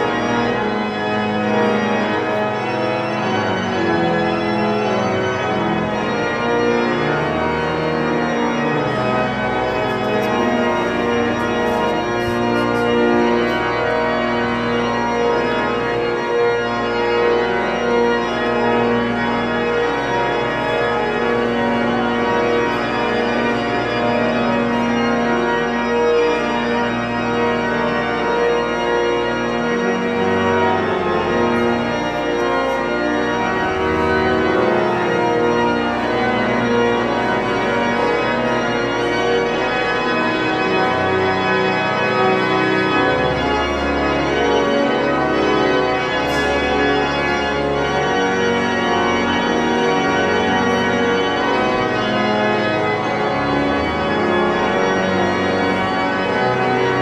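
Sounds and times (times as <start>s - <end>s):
organ playing held chords: 0.0s - 57.0s.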